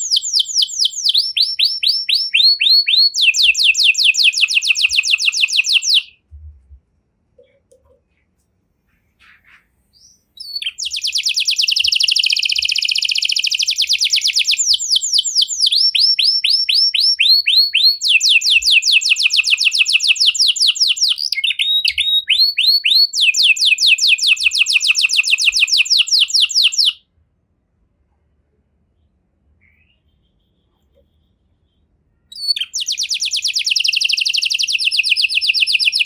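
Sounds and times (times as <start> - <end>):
canary singing trills: 0.0 - 6.2, 8.9 - 27.0, 29.6 - 36.0.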